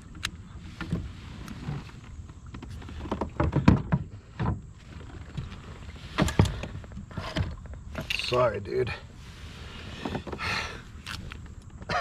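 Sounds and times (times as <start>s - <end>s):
knocks and clatters in kayak: 0.0s - 12.0s.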